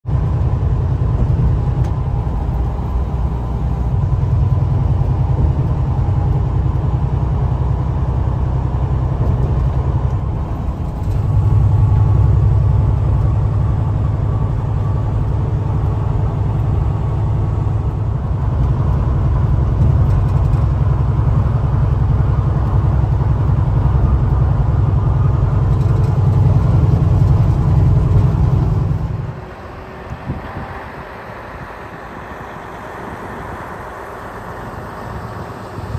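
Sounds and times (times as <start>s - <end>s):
truck engine and road drone: 0.0s - 35.9s.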